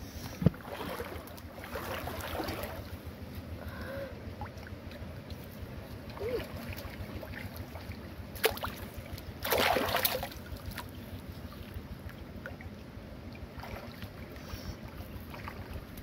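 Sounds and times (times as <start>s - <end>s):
steady low rumble: 0.0s - 16.0s
water splashing in muddy pool: 0.4s - 3.0s, 4.4s - 12.8s, 13.4s - 16.0s.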